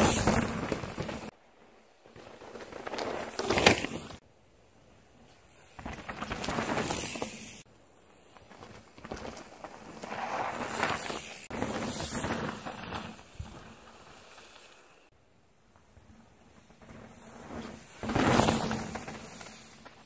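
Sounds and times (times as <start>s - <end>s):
bike tyres rolling on dirt and stones: 0.0s - 20.0s.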